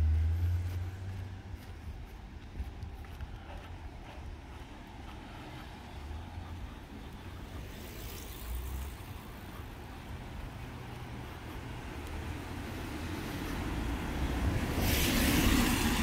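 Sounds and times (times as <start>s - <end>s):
vehicle approaching low rumble: 0.0s - 16.0s.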